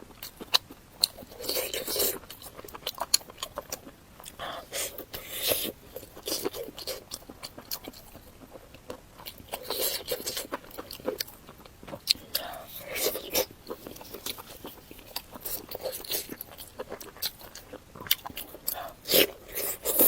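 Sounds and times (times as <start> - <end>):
chewing with wet mouth clicks: 0.1 - 20.0.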